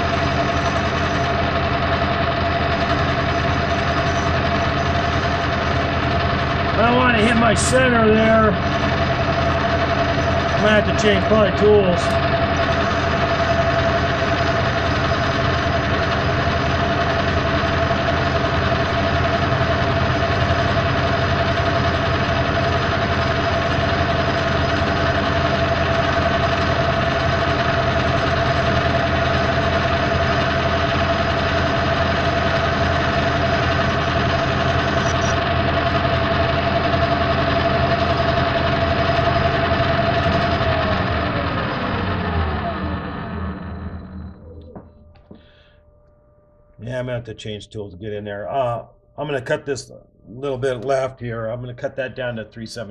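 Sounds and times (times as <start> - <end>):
metal lathe whining: 0.0 - 45.6.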